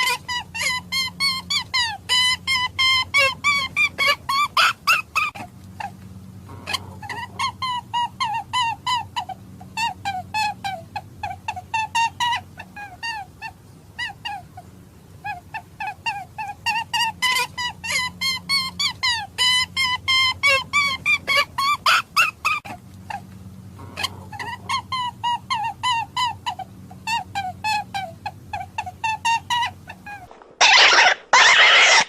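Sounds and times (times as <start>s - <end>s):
steady low hum: 0.0s - 31.3s
rabbit distress call squeaks: 0.0s - 32.0s.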